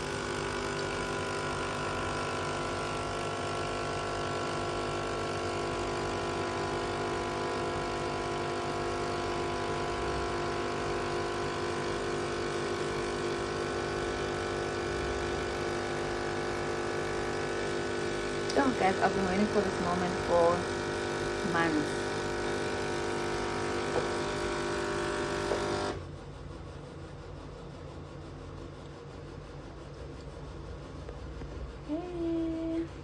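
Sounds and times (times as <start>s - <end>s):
coffee machine humming: 0.0s - 33.0s.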